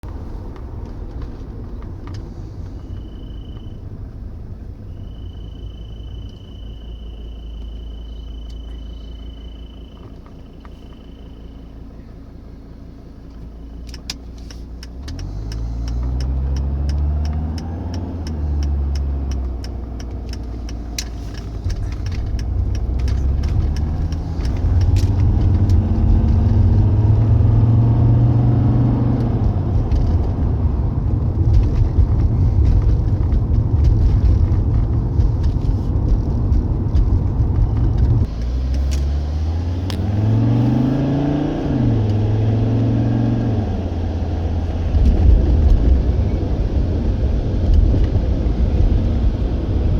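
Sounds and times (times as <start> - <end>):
diesel engine accelerating: 0.0 - 49.9.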